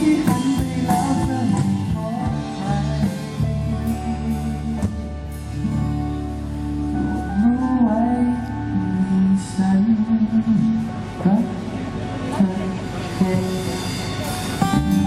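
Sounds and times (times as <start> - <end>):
man singing: 0.0 - 5.4, 7.1 - 11.6, 12.4 - 15.0
guitar and bass chords: 0.0 - 15.0.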